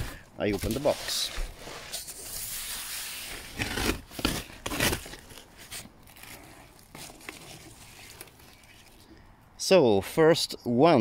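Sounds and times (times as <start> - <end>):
cardboard scraping strokes: 0.0 - 9.0.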